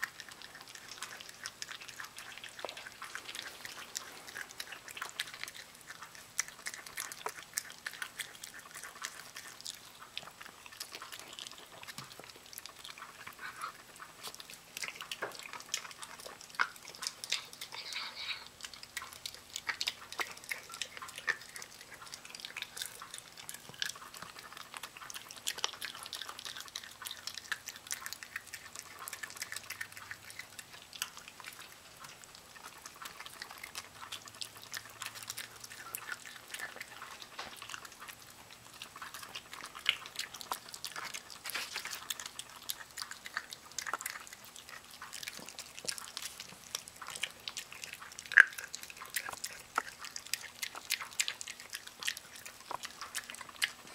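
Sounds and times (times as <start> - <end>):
dog chewing meat: 0.0 - 53.9.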